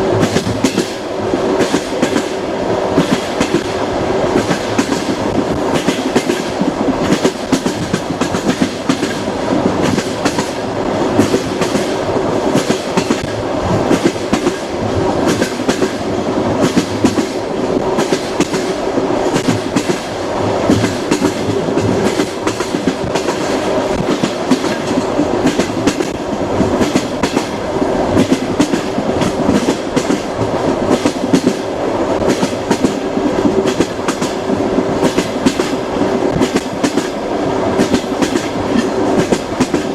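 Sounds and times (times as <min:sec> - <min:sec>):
train rumble: 0:00.0 - 0:39.9
train wheels clicking over joints: 0:00.1 - 0:39.9.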